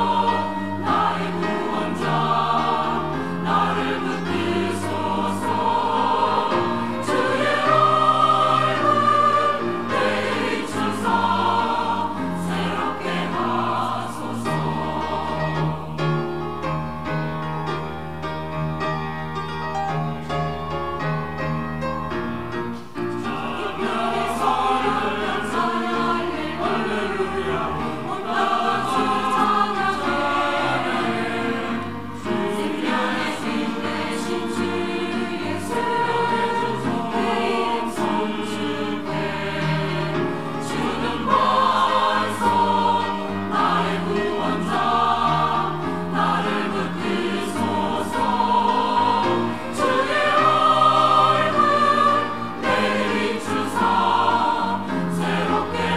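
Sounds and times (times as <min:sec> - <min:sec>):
choir singing: 0:00.0 - 0:18.4, 0:22.3 - 0:55.9.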